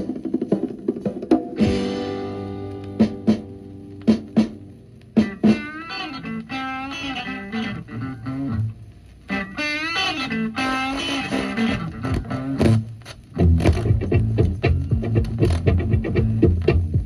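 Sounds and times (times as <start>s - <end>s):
psychedelic rock music: 0.0s - 17.0s
electric guitar bending notes: 1.6s - 17.0s.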